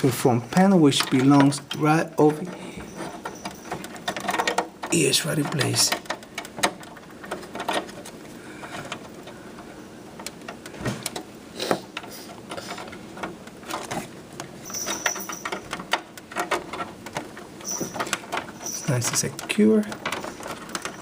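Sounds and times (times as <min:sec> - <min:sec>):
cable rustling: 0:00.0 - 0:21.0.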